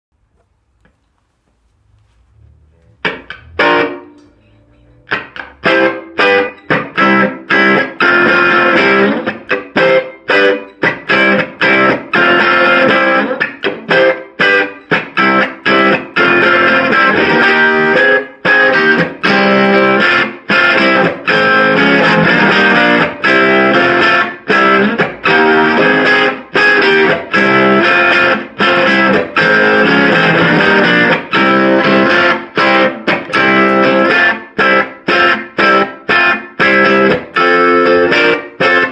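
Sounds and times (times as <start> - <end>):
distorted electric guitar chord stabs: 2.8 - 38.9.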